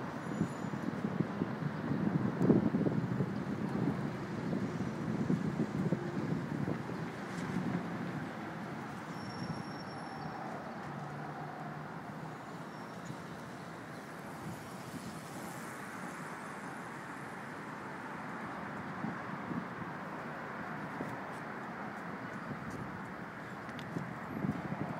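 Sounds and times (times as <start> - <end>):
steady traffic noise: 0.0 - 24.9.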